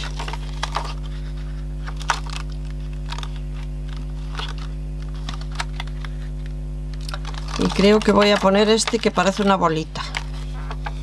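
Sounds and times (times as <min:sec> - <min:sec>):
low electrical hum: 0:00.0 - 0:11.0
plastic clicks and crinkles: 0:00.0 - 0:11.0.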